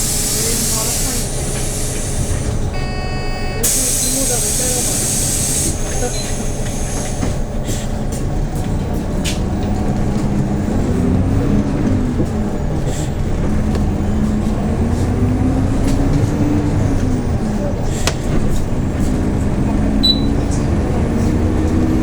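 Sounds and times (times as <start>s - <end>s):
bus engine accelerating: 0.0s - 22.0s.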